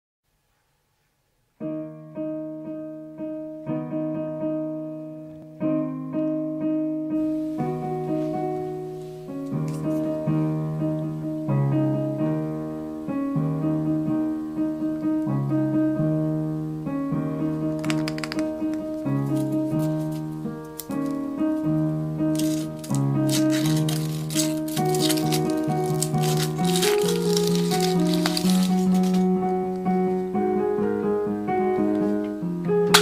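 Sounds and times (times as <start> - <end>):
light piano music: 1.6 - 33.0.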